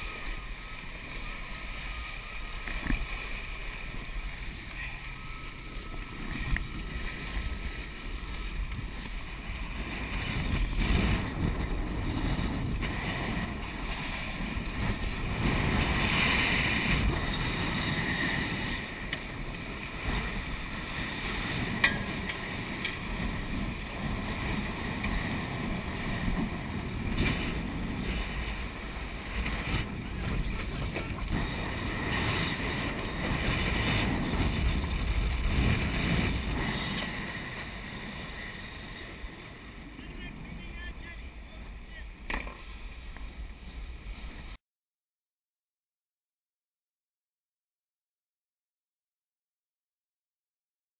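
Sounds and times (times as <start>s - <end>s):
water splashing along boat hull: 0.0s - 44.6s
wind buffeting microphone: 0.0s - 44.6s.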